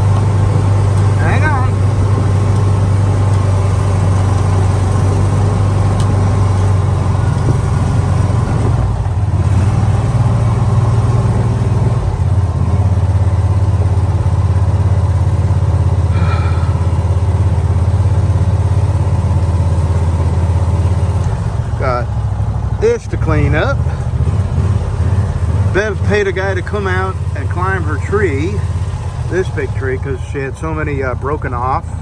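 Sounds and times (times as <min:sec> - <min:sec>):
utility vehicle engine under load: 0:00.0 - 0:32.0.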